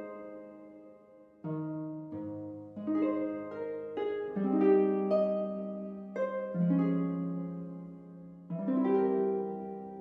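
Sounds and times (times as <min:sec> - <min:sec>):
plucked harp-like melody: 0:00.0 - 0:10.0.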